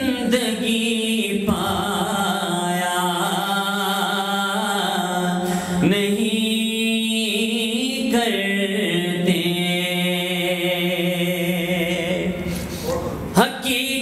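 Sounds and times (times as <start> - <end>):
man singing: 0.0 - 12.5, 13.4 - 14.0.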